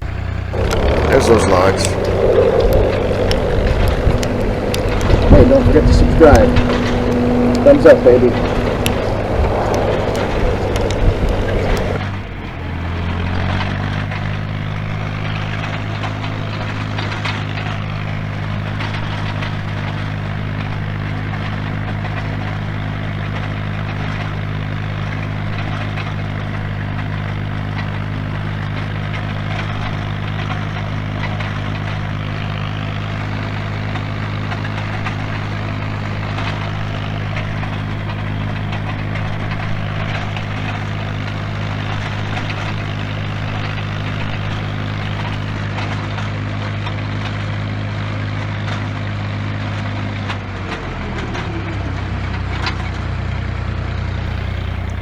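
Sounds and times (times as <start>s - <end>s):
bulldozer diesel engine under load: 0.0s - 45.8s, 48.8s - 55.0s.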